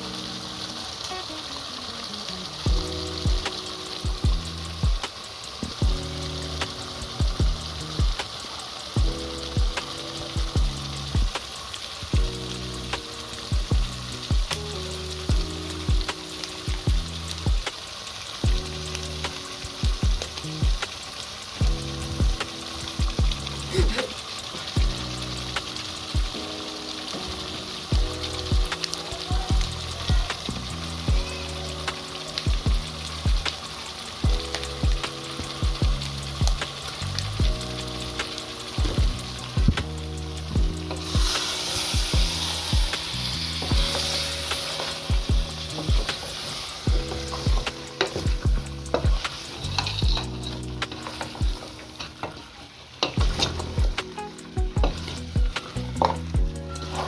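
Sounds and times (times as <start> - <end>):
food sizzling in a pan: 0.0 - 57.0
background music with kick drums: 2.6 - 17.8, 18.4 - 52.1, 53.2 - 57.0.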